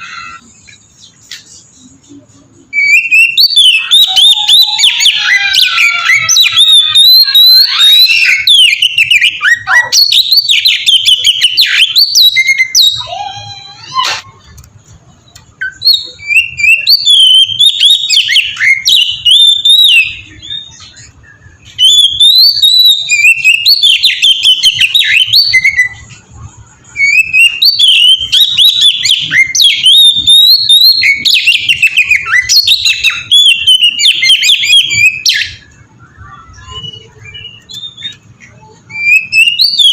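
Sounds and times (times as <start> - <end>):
magpie-robin singing: 0.0 - 14.2, 15.3 - 39.9.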